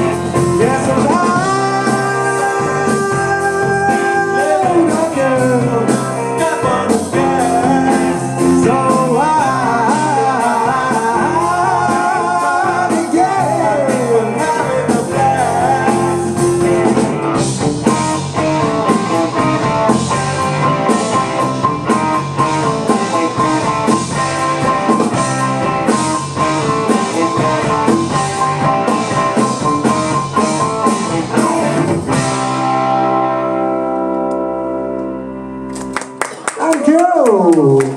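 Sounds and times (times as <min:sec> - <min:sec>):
electric bass: 0:00.0 - 0:36.2
drums: 0:00.0 - 0:37.9
electric guitar: 0:00.0 - 0:37.9
keyboard: 0:00.0 - 0:37.9.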